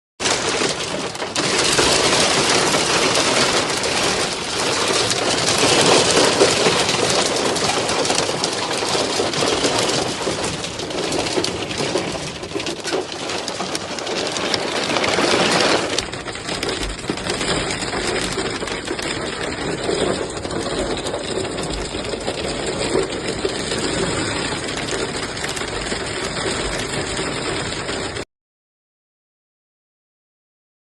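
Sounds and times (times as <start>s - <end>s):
hailstones pelting down: 0.2s - 28.2s.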